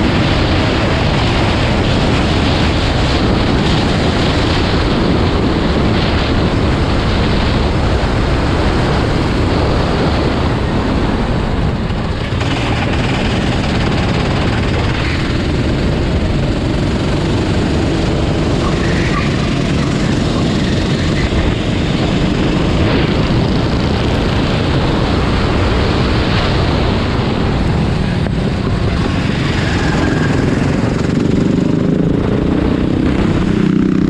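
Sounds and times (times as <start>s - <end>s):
racing engines rumbling: 0.0s - 34.0s.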